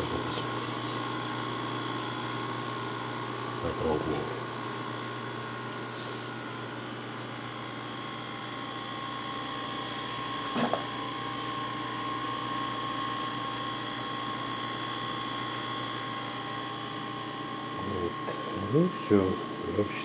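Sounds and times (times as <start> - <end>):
video recorder mechanical whine: 0.0 - 20.0.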